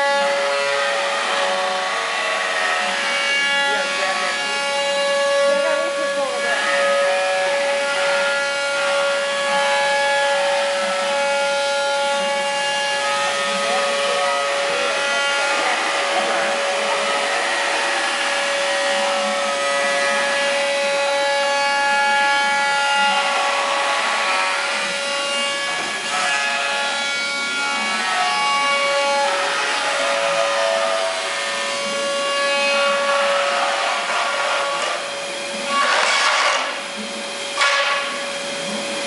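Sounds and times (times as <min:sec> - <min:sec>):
cnc router spindle whine: 0:00.0 - 0:39.0
rasping cutting noise: 0:00.0 - 0:39.0.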